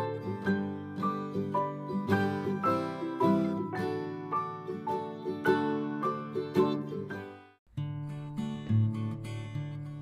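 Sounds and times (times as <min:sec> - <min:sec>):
plucked string tune: 0:00.0 - 0:10.0.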